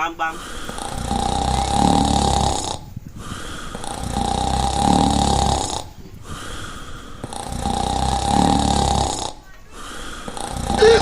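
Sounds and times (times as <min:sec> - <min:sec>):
person snoring: 0:00.0 - 0:09.4, 0:10.3 - 0:11.0
quiet breathing: 0:00.0 - 0:11.0.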